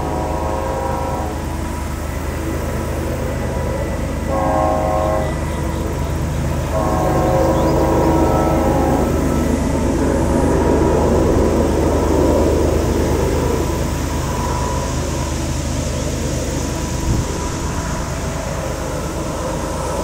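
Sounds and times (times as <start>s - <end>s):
diesel locomotive engine chugging: 0.0s - 20.0s
locomotive air horn chord: 0.0s - 20.0s.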